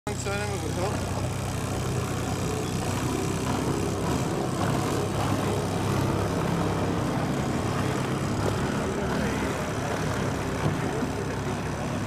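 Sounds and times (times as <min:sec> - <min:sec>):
outboard motor droning: 0:00.1 - 0:12.0.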